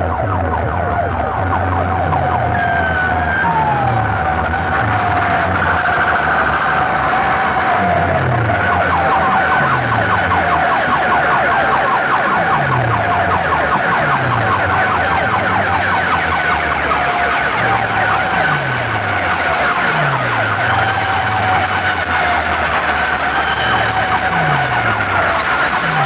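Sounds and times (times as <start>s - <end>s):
deep bass sweep: 0.0s - 26.0s
siren-like electronic music: 0.0s - 26.0s.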